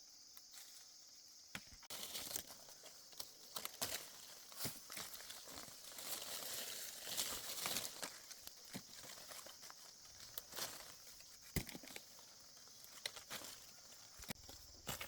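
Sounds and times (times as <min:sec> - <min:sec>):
rustling of things handled: 0:01.8 - 0:15.0.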